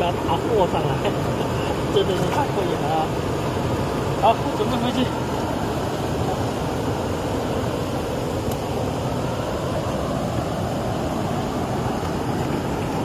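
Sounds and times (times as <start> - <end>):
floodwater rushing in a stream: 0.0 - 13.0.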